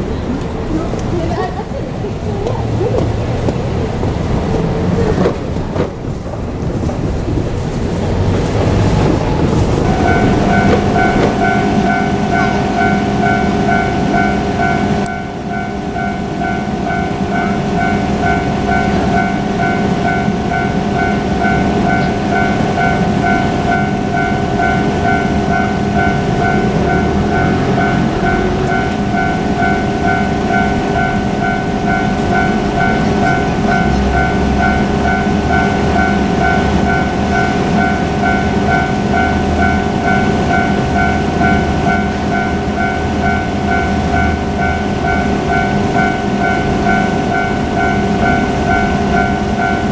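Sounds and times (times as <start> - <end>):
diesel railcar rumble: 0.0 - 49.9
level-crossing warning bell: 0.0 - 49.9.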